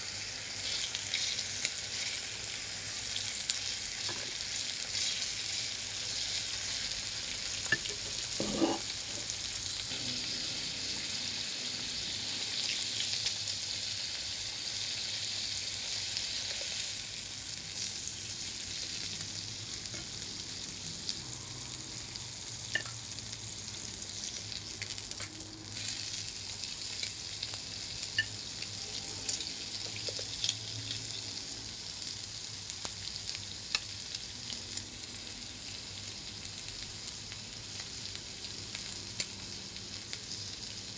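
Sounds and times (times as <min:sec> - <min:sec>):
meat sizzling on a grill pan: 0:00.0 - 0:40.9.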